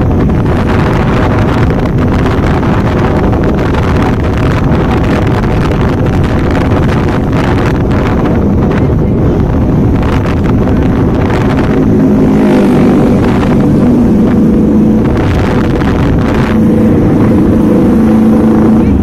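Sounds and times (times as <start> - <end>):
motorcycle engine drone: 0.0 - 19.0
wind buffeting microphone: 0.0 - 19.0.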